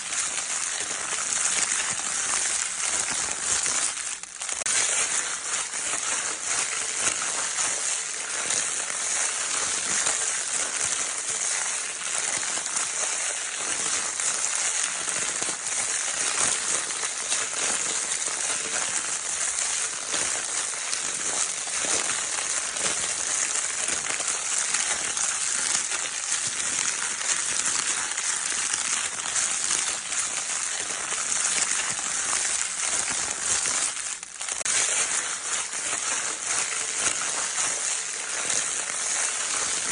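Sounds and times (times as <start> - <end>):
crinkle paper rustling: 0.0 - 39.9.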